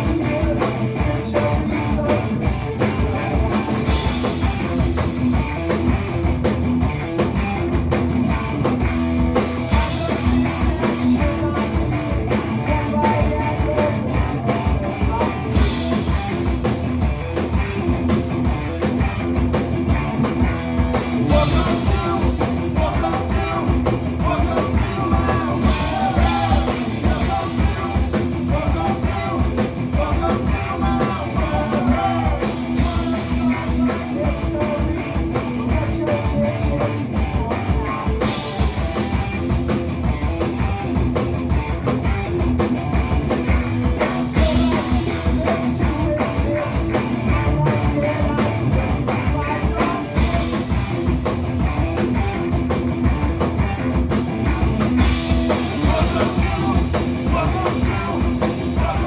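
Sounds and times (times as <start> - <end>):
rock band playing live: 0.0 - 59.0
sung lead vocals: 0.0 - 59.0.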